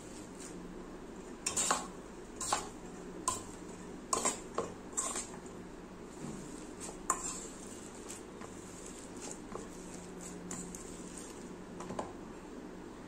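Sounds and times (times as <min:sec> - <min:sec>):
rice being mashed rustle: 0:00.0 - 0:12.0.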